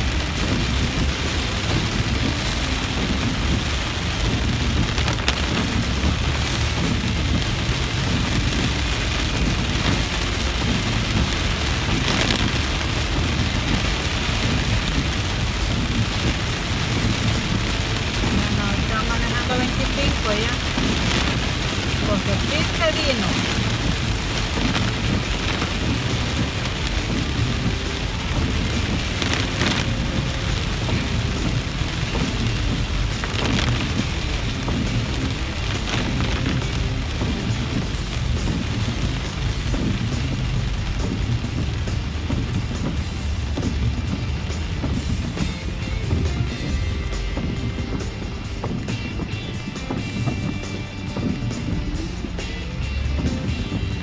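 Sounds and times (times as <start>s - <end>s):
heavy rain on a car roof: 0.0s - 54.0s
rush of water: 0.0s - 54.0s
tyres rumbling on wet road: 0.0s - 54.0s.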